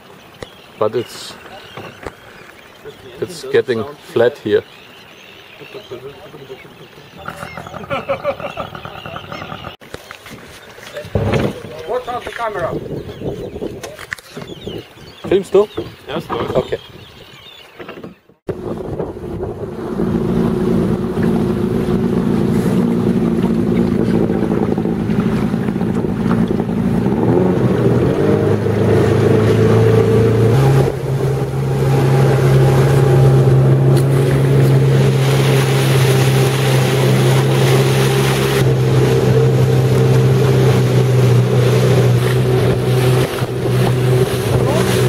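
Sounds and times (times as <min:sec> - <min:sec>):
rushing water: 0:00.0 - 0:16.8, 0:18.5 - 0:45.0
outboard motor running: 0:00.4 - 0:16.8, 0:18.2 - 0:45.0
wind on microphone: 0:07.2 - 0:45.0.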